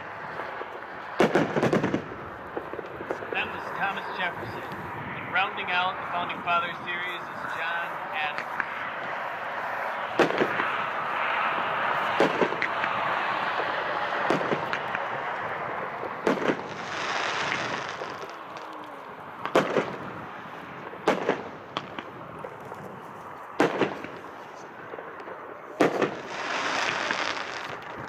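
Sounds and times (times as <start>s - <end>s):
fireworks bangs: 0.0s - 28.0s
fireworks rushing hiss: 0.0s - 28.0s.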